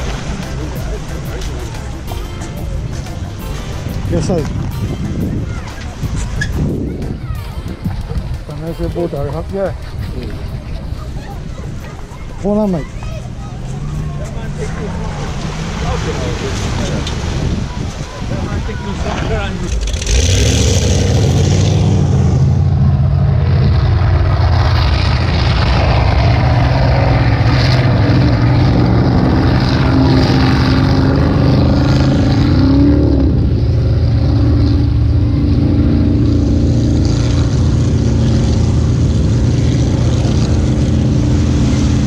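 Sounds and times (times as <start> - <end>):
motorboat engine running: 0.0 - 42.0.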